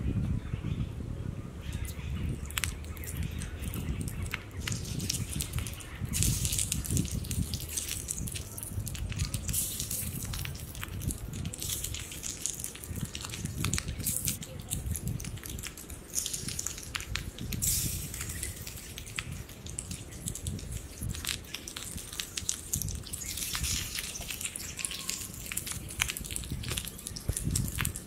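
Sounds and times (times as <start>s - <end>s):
food sizzling: 2.4s - 28.0s.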